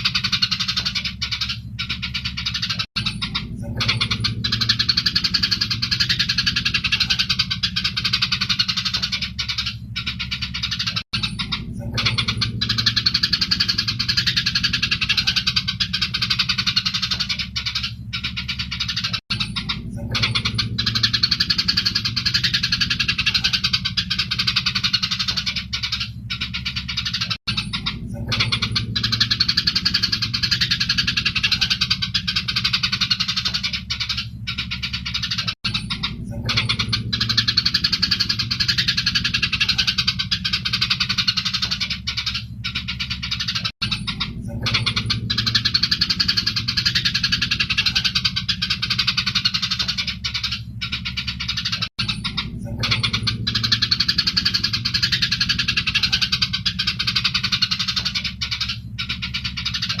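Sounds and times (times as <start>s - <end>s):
low hum: 0.0s - 60.0s
sparrows chattering and chirping: 0.0s - 60.0s.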